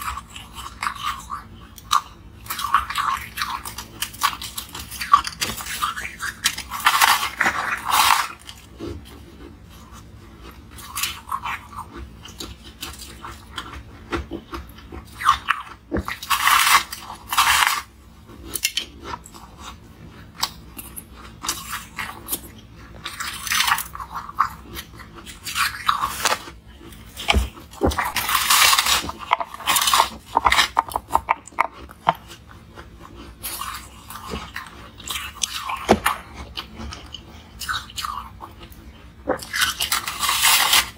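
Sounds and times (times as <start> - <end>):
ice crunching while chewed: 0.0 - 40.9.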